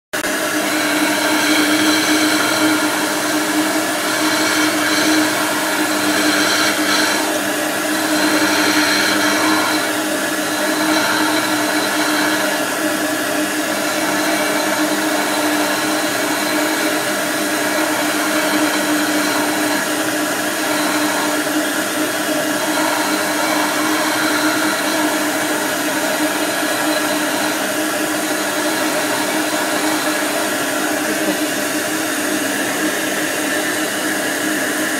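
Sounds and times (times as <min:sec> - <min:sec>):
bench grinder grinding: 0:00.1 - 0:34.9.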